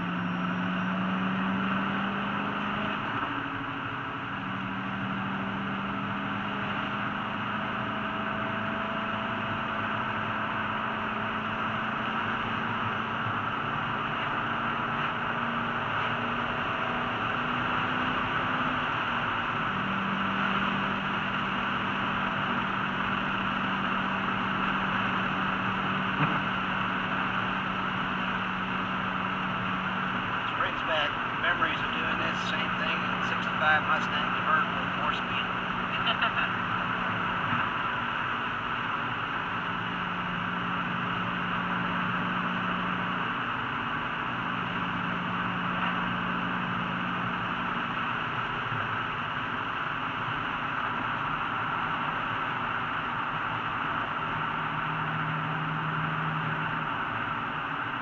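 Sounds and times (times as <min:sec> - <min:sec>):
car engine hum: 0:00.0 - 0:58.0
road and wind noise: 0:00.0 - 0:58.0.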